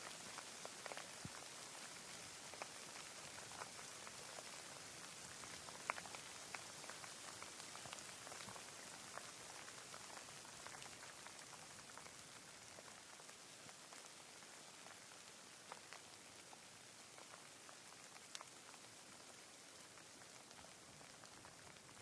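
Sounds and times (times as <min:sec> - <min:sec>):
raindrops ticking: 0:00.0 - 0:22.0
steady rain hiss: 0:00.0 - 0:22.0.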